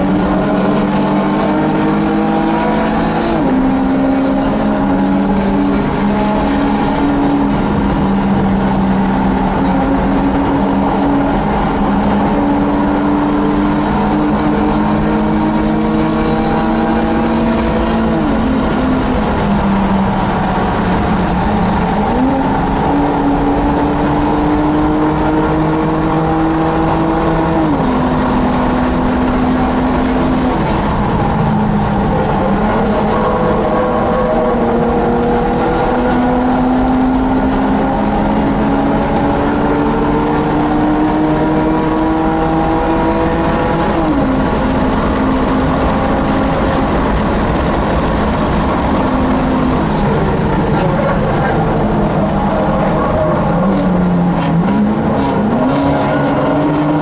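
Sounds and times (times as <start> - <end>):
race car engine revving: 0.0 - 57.0
wind and tyre noise: 0.0 - 57.0.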